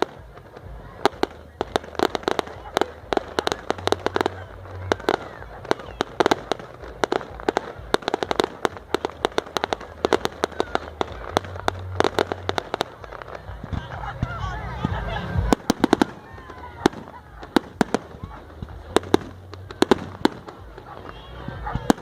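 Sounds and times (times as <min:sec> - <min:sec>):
fireworks bangs and cracks: 0:00.0 - 0:22.0.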